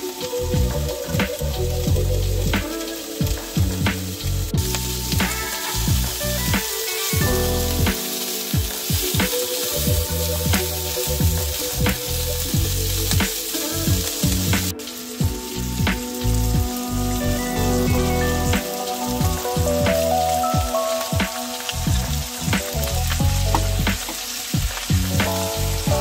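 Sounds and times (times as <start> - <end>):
background music: 0.0 - 26.0
food sizzling in a pan: 0.0 - 26.0.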